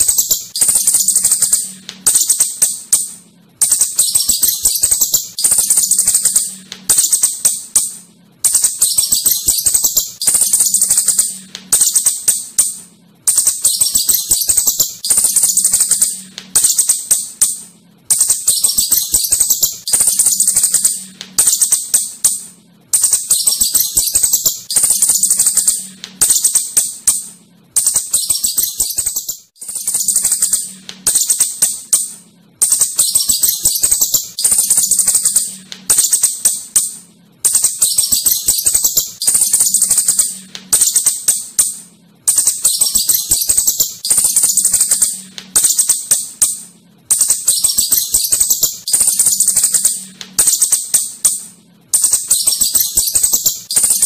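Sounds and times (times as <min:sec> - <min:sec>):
shrew clicking chatter: 0:00.0 - 0:54.0.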